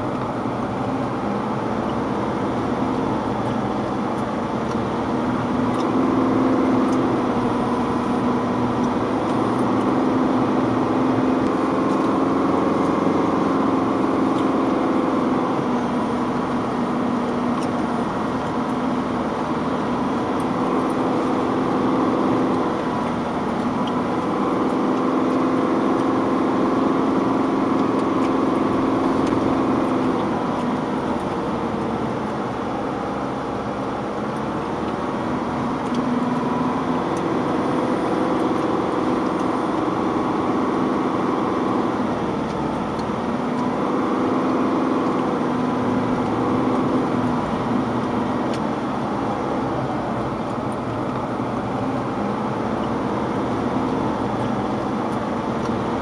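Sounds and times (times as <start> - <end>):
vehicle engine from inside cabin: 0.0 - 56.0.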